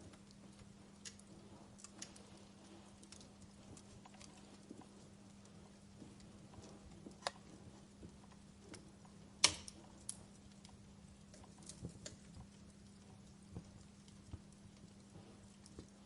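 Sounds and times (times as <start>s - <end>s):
faint low hum: 0.0s - 16.0s
wood fire crackling: 0.0s - 16.0s.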